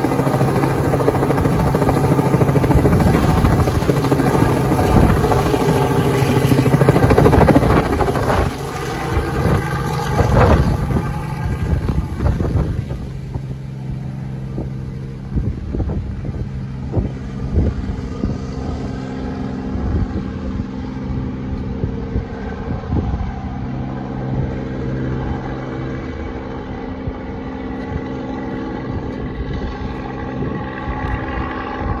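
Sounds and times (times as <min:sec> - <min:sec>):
helicopter rotor drone: 0:00.0 - 0:32.0
wind buffeting microphone: 0:00.0 - 0:32.0.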